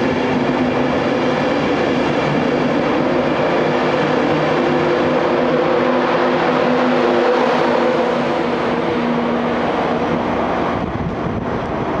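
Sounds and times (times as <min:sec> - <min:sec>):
train passing rush of wheels: 0:00.0 - 0:12.0.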